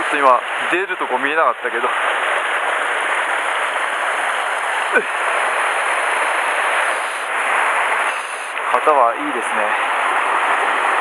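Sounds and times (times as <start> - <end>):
stream rushing over rocks: 0.1 - 11.0.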